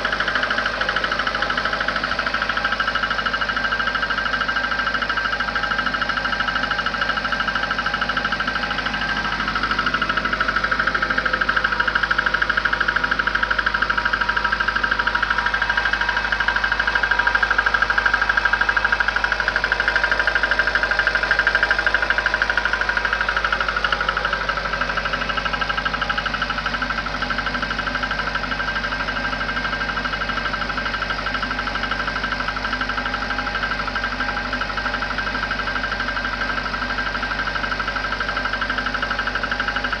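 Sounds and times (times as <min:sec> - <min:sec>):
engine idling with knocking: 0:00.0 - 0:40.0.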